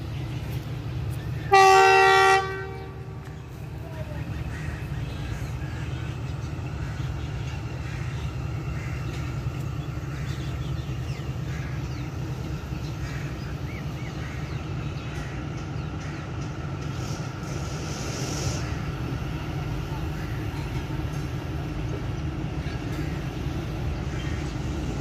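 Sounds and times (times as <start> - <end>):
low rumble of train: 0.0 - 25.0.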